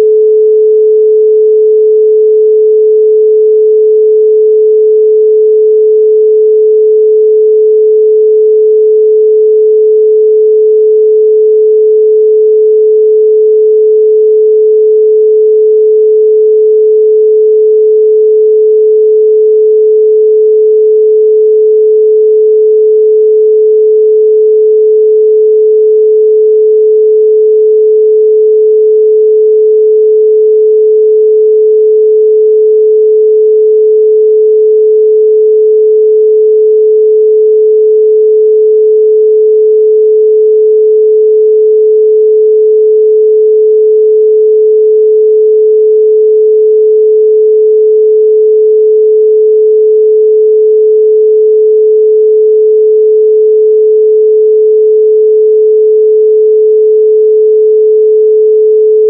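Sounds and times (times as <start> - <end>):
pure sine tone: 0.0 - 59.0.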